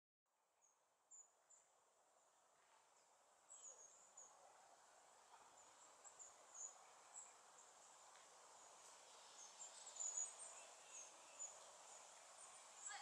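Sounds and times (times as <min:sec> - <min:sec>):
low steady hiss: 0:00.3 - 0:13.0
small birds chirping: 0:01.1 - 0:13.0.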